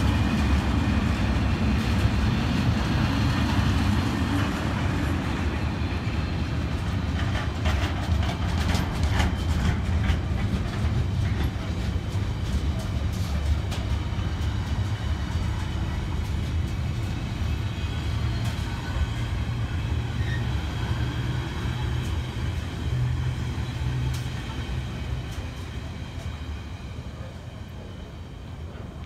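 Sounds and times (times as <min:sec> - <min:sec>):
freight train wagons rumbling: 0:00.0 - 0:29.0.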